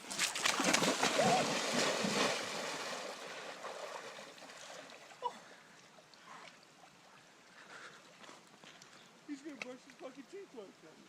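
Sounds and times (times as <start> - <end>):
water sloshing and trickling: 0.0 - 9.0.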